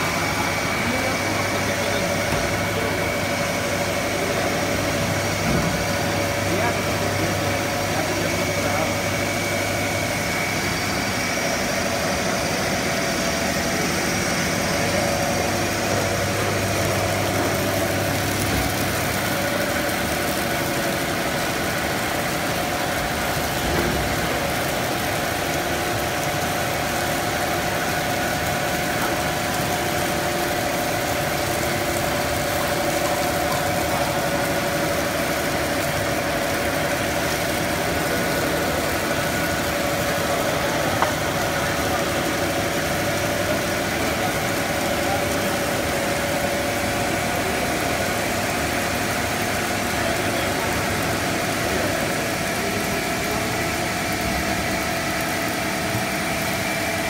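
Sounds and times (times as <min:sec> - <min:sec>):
machine hums: 0:00.0 - 0:57.0.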